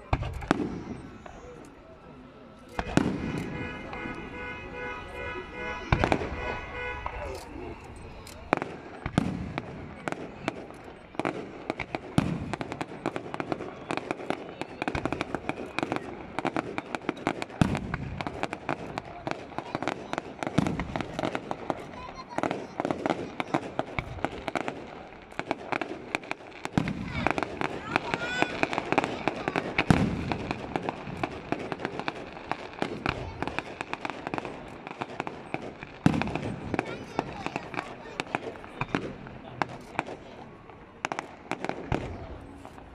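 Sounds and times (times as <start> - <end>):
firework shells booming: 0.0 - 1.7, 2.7 - 42.9
firework crackling and popping: 0.0 - 42.9.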